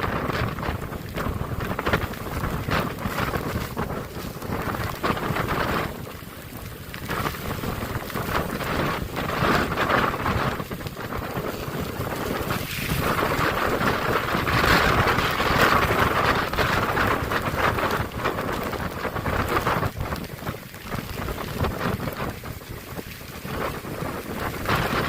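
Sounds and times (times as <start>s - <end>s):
driving rain: 0.0s - 25.0s
wind buffeting microphone: 0.0s - 25.0s.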